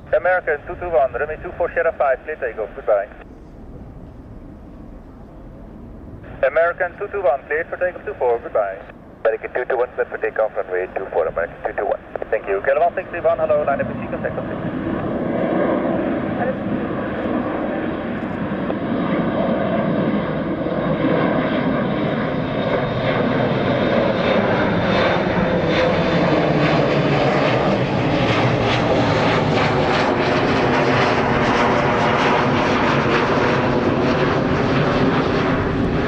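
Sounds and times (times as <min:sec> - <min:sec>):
jet engines at takeoff: 0:00.0 - 0:36.0.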